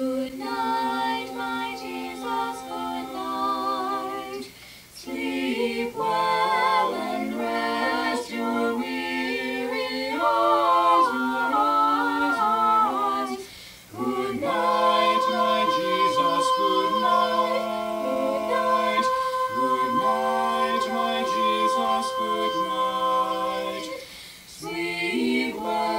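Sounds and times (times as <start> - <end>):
vocal quartet singing in harmony: 0.0 - 25.9.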